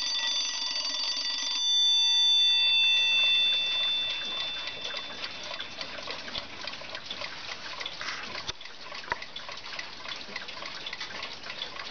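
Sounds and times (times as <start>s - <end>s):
mechanical alarm clock ticking: 0.0s - 11.9s.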